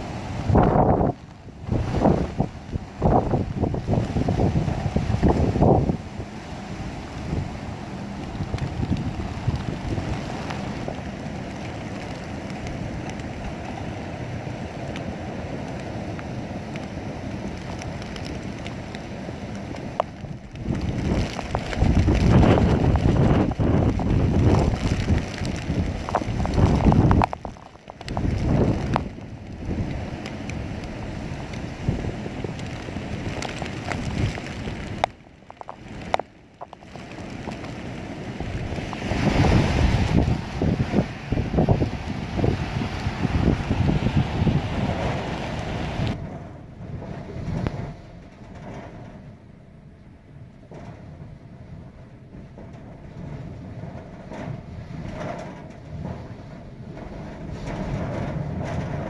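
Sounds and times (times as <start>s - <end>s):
heavy rain pouring on road: 0.0s - 59.0s
storm wind rumbling: 0.0s - 59.0s.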